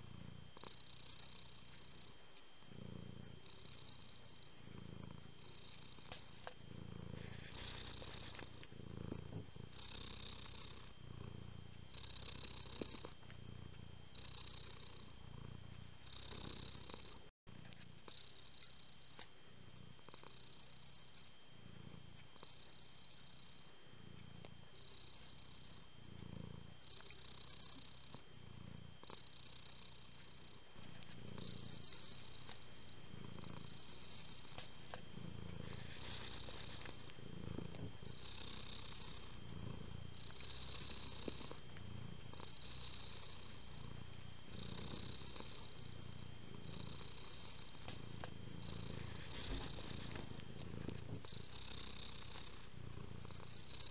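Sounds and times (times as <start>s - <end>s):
cat purring: 0.0s - 53.9s.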